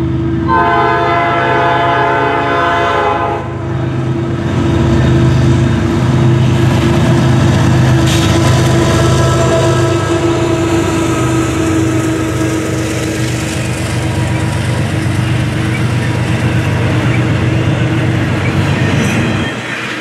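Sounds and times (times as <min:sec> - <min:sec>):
diesel locomotive hum: 0:00.0 - 0:20.0
freight cars rumbling on rails: 0:00.0 - 0:20.0.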